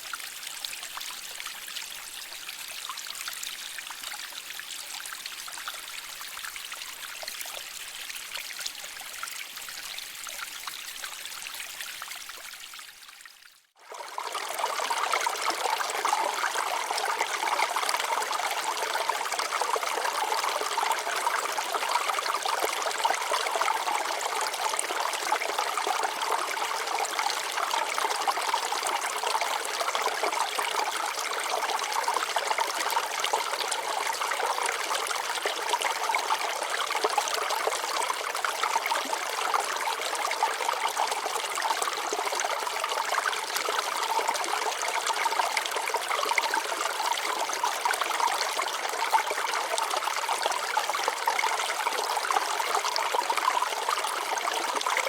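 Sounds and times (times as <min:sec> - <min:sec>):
water flowing over rocks: 0:00.0 - 0:55.0.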